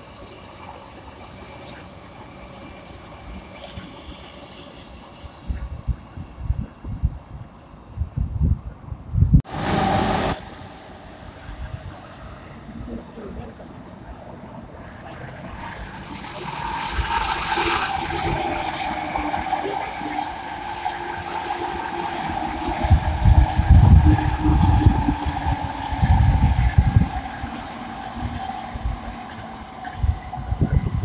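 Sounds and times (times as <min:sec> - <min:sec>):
electric trains passing: 0:00.0 - 0:31.0.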